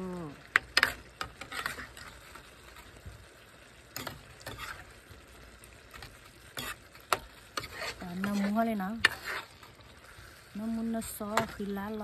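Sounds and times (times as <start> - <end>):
ladle stirring wet food: 0.3 - 12.0.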